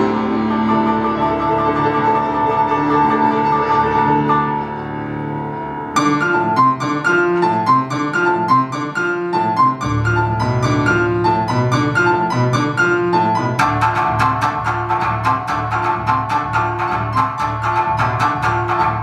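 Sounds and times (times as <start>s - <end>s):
shamisen and piano instrumental: 0.0s - 19.0s.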